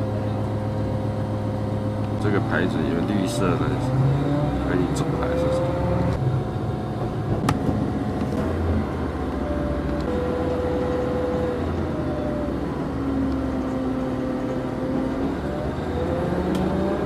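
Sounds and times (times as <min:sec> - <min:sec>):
train rumble: 0:00.0 - 0:17.0
whining engine tones: 0:00.0 - 0:17.0.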